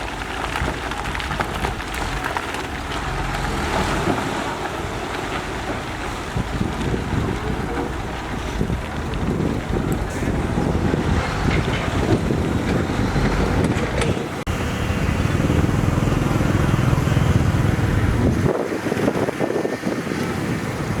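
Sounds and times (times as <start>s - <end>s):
diesel engines of heavy machinery: 0.0s - 21.0s
wind buffeting microphone: 0.0s - 21.0s.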